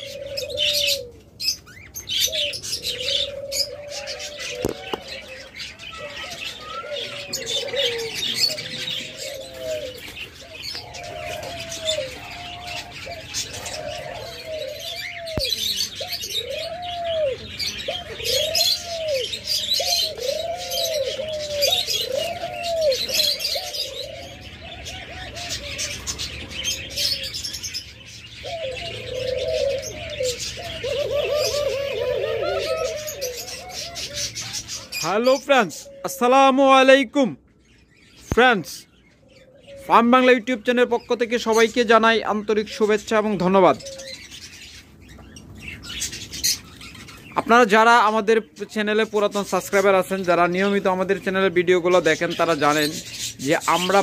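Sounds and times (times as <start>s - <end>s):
caged birds chirping and chattering: 0.0s - 54.0s
doves cooing: 0.0s - 54.0s.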